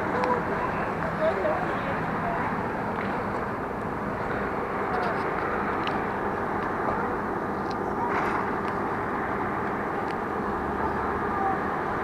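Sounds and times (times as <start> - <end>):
train machinery hum and whir: 0.0 - 12.0.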